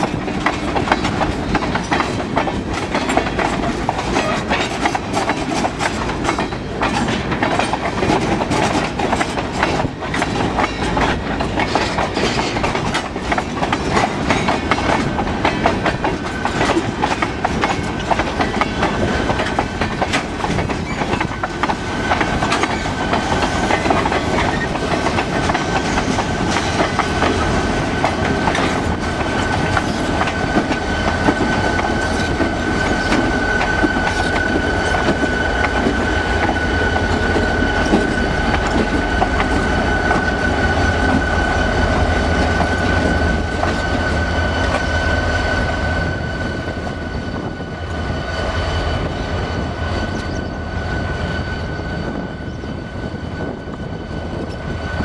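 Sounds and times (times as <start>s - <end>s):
train wheels clicking over rail joints: 0.0s - 51.3s
diesel locomotive rumble: 0.0s - 55.0s
train rumble: 0.0s - 55.0s.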